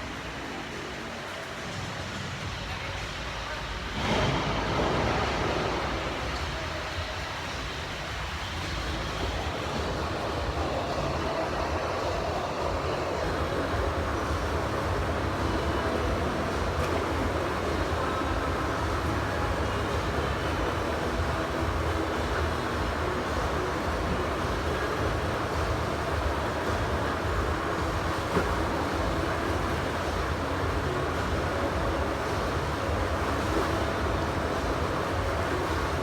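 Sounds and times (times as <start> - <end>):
bus rumble and road noise: 0.0 - 36.0.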